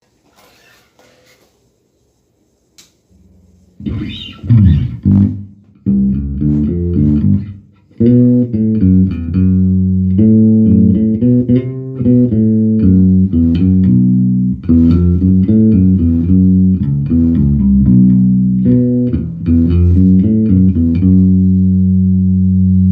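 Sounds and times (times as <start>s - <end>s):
electric bass guitar notes: 3.8s - 22.9s.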